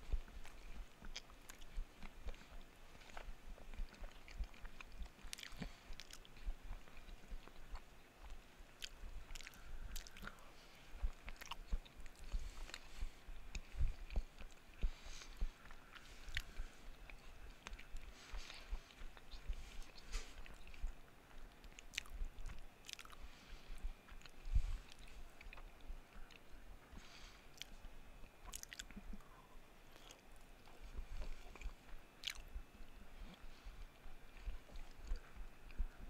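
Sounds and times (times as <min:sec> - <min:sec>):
chewing and mouth sounds: 0:00.0 - 0:36.0.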